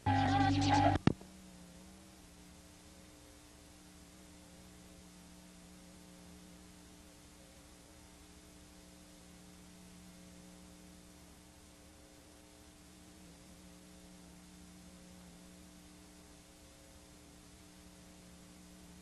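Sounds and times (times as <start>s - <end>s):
electrical hum with low tones: 0.0s - 19.0s
tape hiss: 0.0s - 19.0s.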